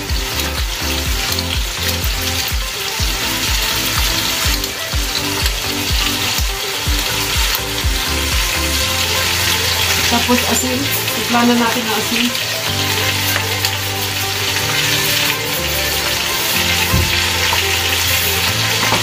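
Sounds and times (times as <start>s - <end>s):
background music with steady beat: 0.0s - 19.0s
chicken sizzling in butter: 0.0s - 19.0s.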